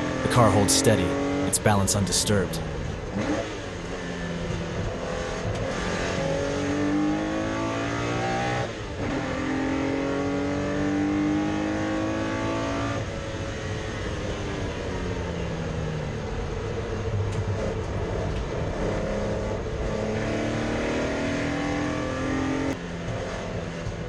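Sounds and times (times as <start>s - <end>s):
race car engine accelerating: 0.0s - 15.2s, 16.2s - 24.0s.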